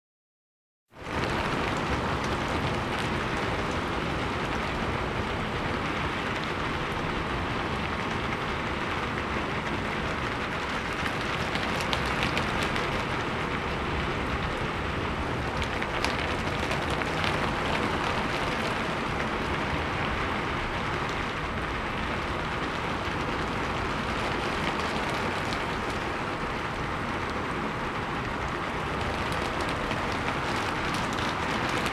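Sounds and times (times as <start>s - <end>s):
rain pattering on roof: 0.9s - 31.9s.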